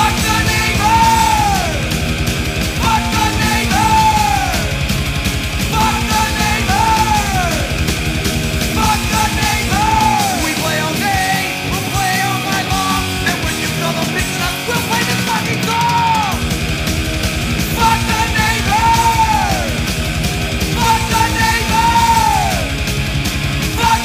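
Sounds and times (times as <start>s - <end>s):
loud heavy metal band music: 0.0s - 24.0s.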